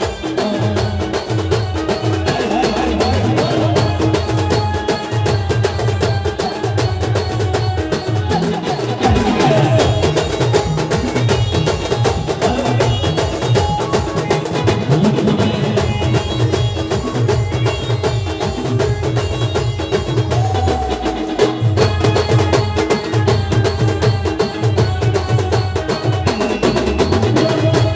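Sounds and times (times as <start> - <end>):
band music: 0.0 - 27.9
fast dense drumming: 0.0 - 27.9.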